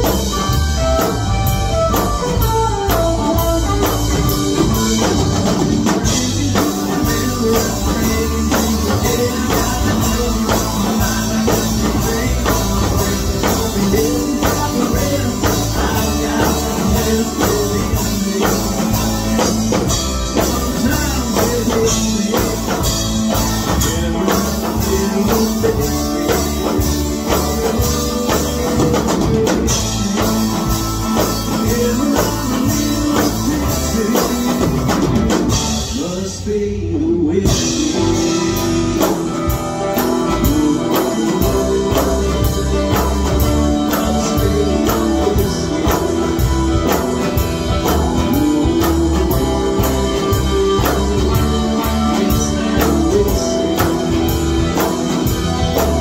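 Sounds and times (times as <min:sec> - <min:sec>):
rock band playing: 0:00.0 - 0:56.0
person singing: 0:01.9 - 0:56.0.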